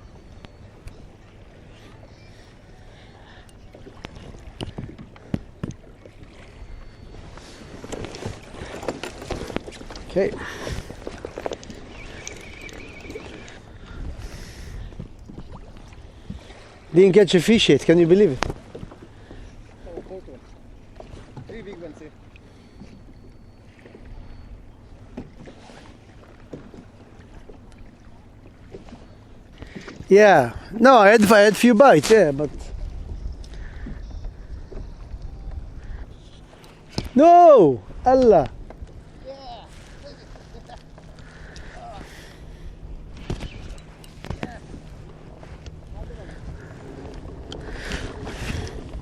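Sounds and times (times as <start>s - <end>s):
water around a kayak: 0.0s - 49.0s
wind: 0.0s - 49.0s.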